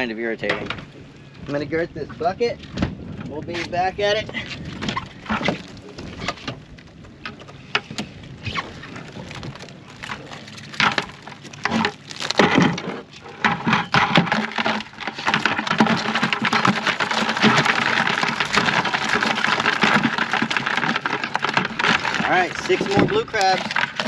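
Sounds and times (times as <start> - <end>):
crabs rattling in a bucket: 3.8 - 24.0.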